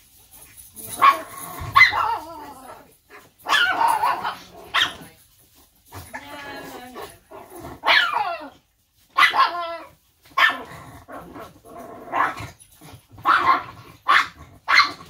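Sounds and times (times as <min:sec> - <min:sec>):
small dogs barking and yelping: 0:00.0 - 0:15.0.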